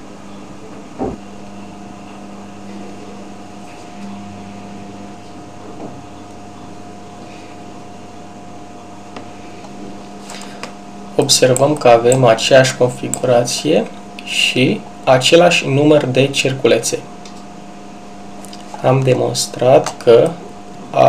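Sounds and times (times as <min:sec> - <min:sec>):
low electrical hum and hiss: 0:00.0 - 0:21.0.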